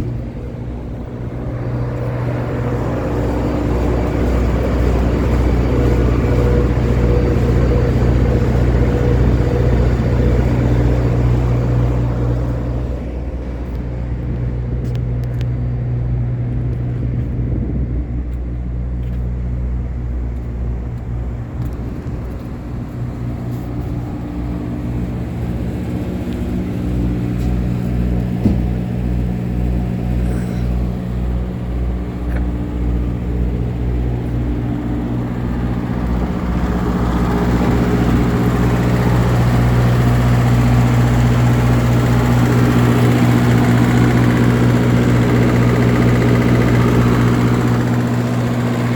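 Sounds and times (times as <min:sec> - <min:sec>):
engine running with low throb: 0:00.0 - 0:48.9.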